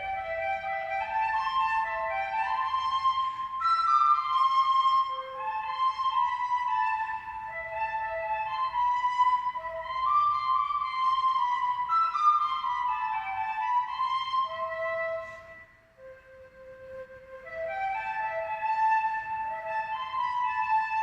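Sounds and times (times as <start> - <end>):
flute-like melody of held notes: 0.0 - 21.0.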